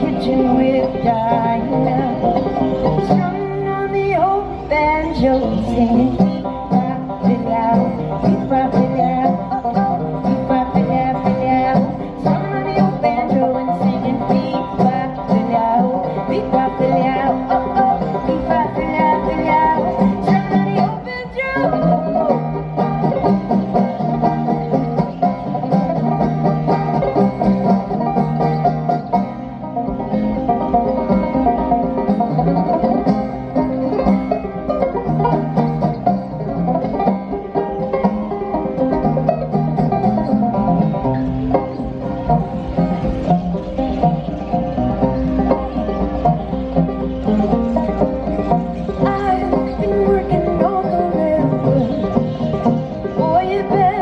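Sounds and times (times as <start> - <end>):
banjos playing: 0.0 - 54.0.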